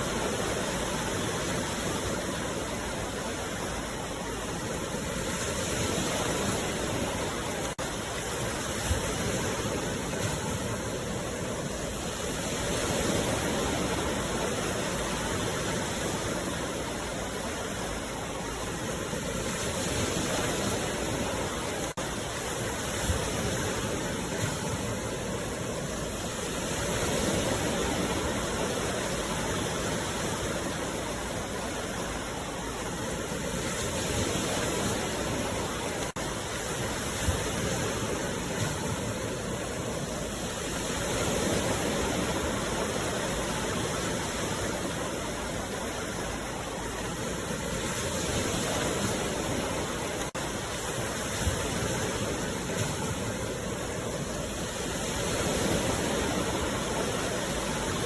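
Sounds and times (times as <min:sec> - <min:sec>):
sea waves breaking ashore: 0:00.0 - 0:58.0.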